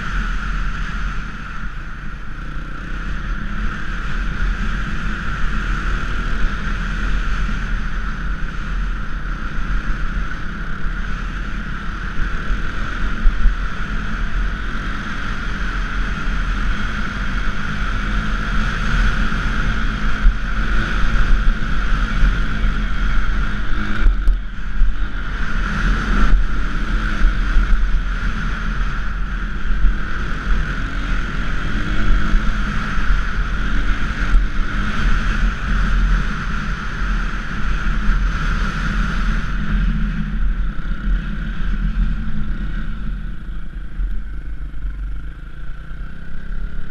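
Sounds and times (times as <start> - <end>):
dirt bike engine running: 0.0 - 46.9
wind rushing over microphone: 0.0 - 46.9.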